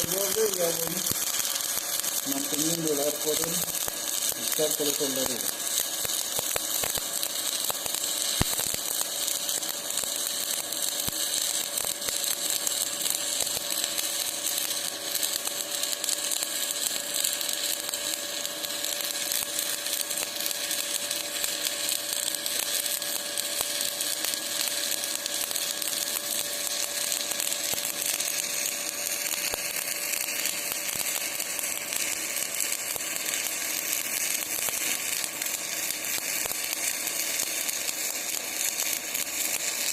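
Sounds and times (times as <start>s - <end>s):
welding arc crackling and hissing: 0.0s - 39.9s.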